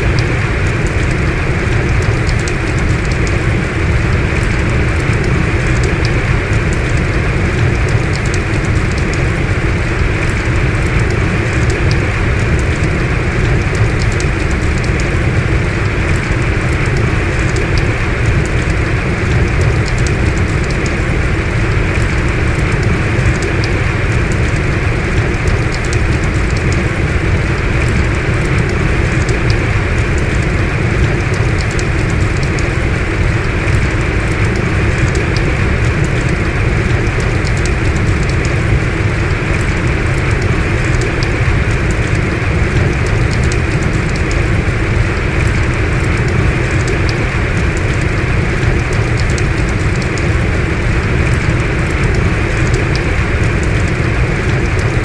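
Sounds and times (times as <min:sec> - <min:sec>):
heavy rain hissing: 0:00.0 - 0:55.0
raindrops ticking: 0:00.0 - 0:55.0.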